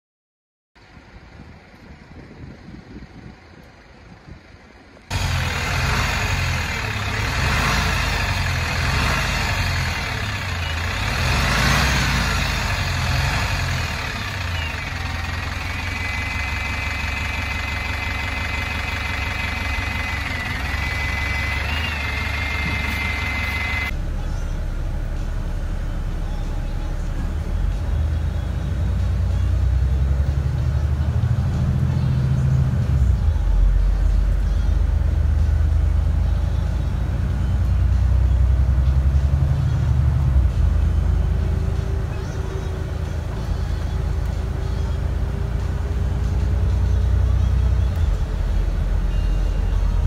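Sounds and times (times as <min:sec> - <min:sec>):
bus engine rumbling: 0:00.8 - 0:50.0.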